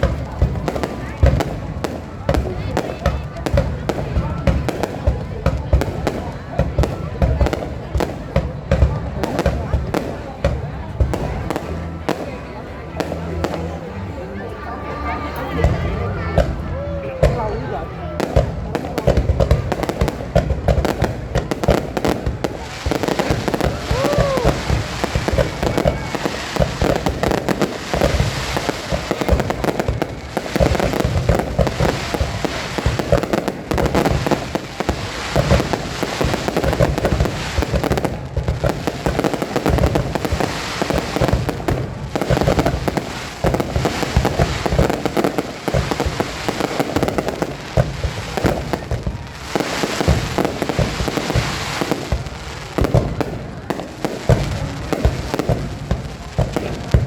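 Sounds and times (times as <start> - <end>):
fireworks crackling: 0.0 - 14.6, 15.3 - 57.0.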